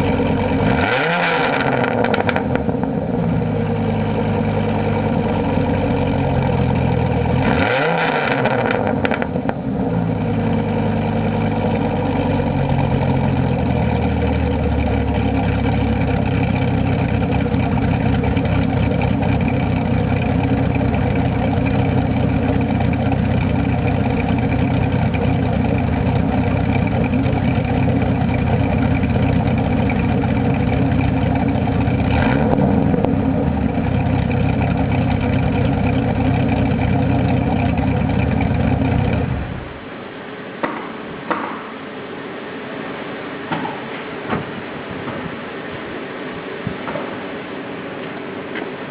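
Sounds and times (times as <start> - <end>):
truck engine idling and revving: 0.0 - 39.9.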